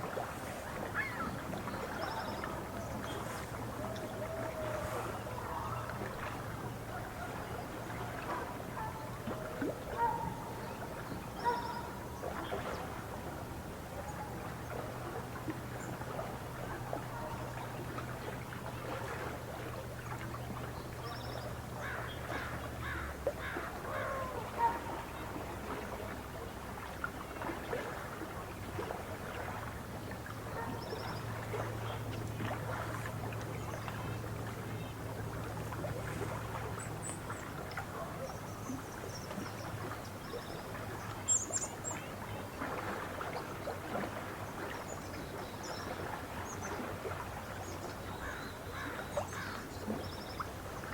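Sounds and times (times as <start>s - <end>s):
water lapping: 0.0s - 50.9s.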